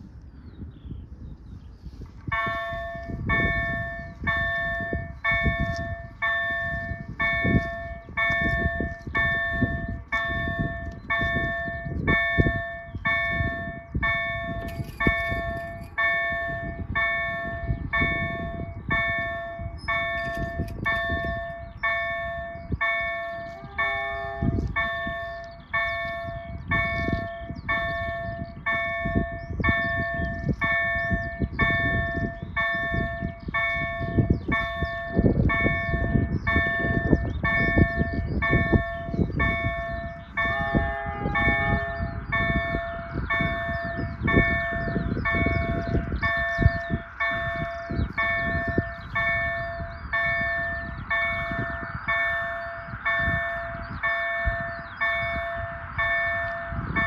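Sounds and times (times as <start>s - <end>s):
level crossing bells ringing: 2.3s - 57.0s.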